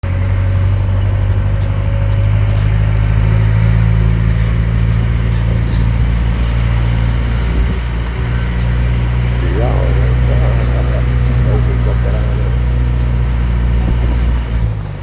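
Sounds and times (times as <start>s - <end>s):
road train engine droning: 0.0s - 15.0s.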